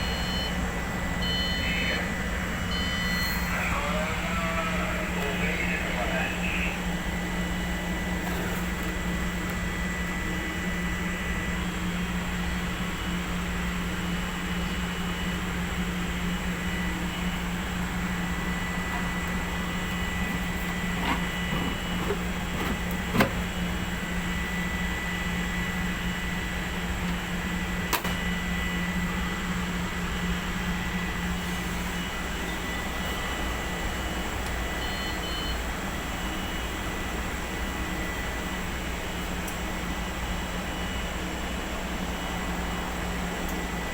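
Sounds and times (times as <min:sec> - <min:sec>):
humidifier humming and hissing: 0:00.0 - 0:43.9.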